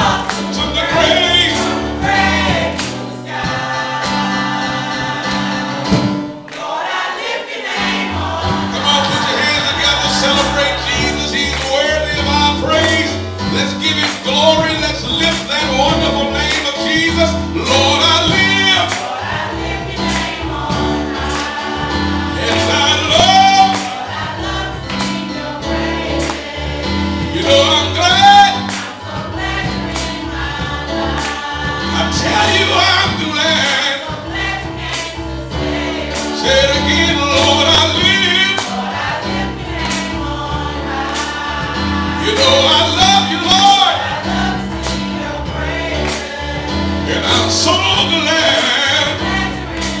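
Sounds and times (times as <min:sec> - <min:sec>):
bass: 0:00.0 - 0:06.3, 0:07.8 - 0:50.0
steady drum beat: 0:00.0 - 0:06.9, 0:07.6 - 0:50.0
youth choir singing gospel: 0:00.0 - 0:50.0.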